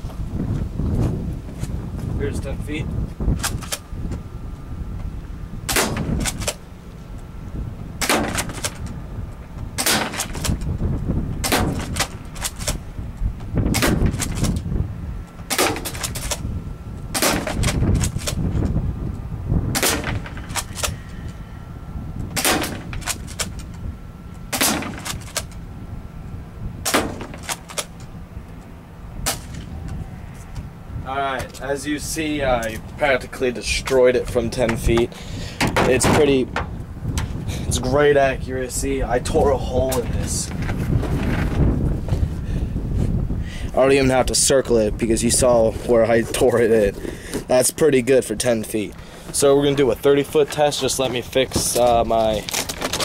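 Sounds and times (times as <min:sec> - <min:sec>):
wind rumble on microphone: 0:00.0 - 0:53.0.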